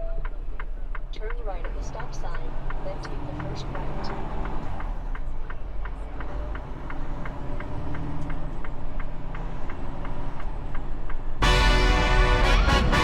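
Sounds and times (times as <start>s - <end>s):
turn signal clicking: 0.0s - 11.4s
diesel engine rumbling: 0.0s - 13.0s.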